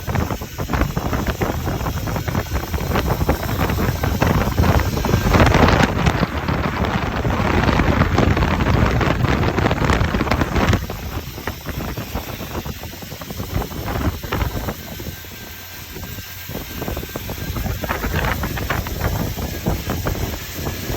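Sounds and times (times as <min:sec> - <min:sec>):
steady rushing noise: 0:00.0 - 0:20.9
wind buffeting microphone: 0:00.0 - 0:20.9.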